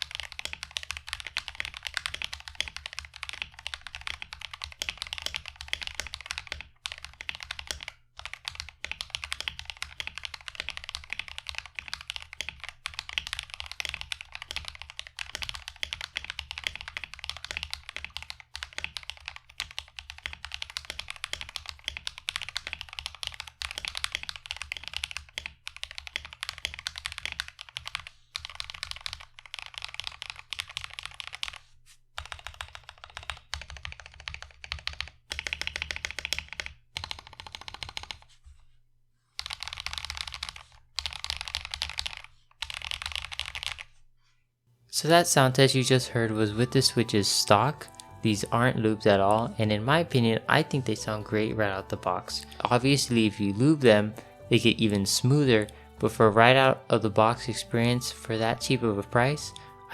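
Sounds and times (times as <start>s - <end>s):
fast typing on mechanical keyboard: 0.0s - 38.4s, 39.3s - 44.0s, 45.8s - 59.9s.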